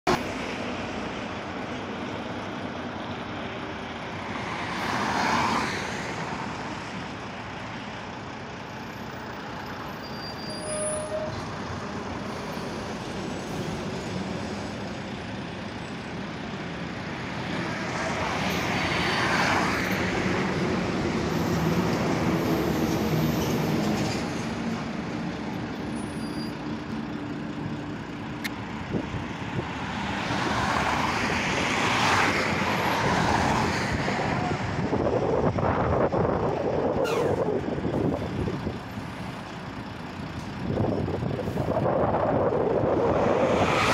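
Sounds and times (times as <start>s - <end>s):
road traffic: 0.0s - 43.9s
heavy truck engine running: 0.1s - 4.9s, 6.1s - 31.7s, 33.9s - 43.6s.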